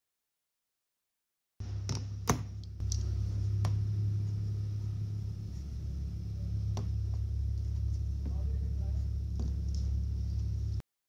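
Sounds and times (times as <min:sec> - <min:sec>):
steady low hum: 0:01.6 - 0:10.8.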